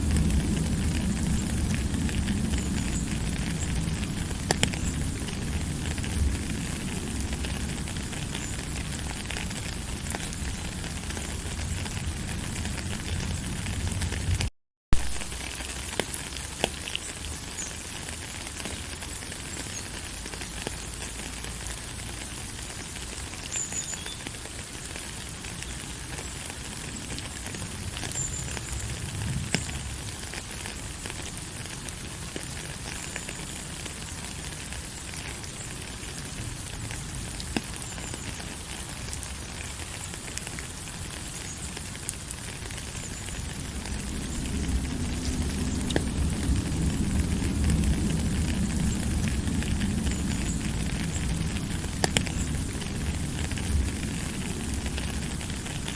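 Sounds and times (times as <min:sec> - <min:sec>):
steady rainfall: 0:00.0 - 0:55.9.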